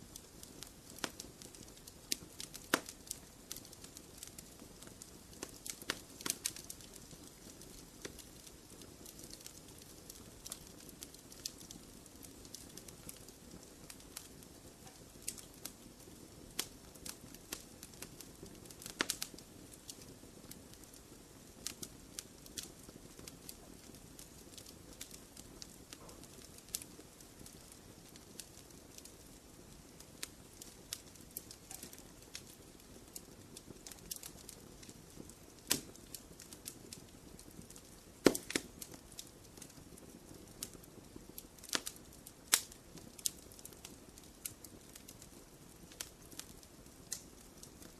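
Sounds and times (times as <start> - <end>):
low rush of flames: 0.0 - 47.9
wood fire popping and snapping: 0.0 - 47.9.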